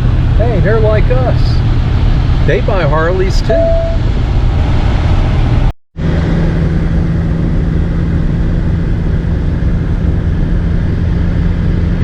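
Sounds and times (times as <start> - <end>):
low hum: 0.0 - 12.0
road and engine drone: 0.0 - 12.0.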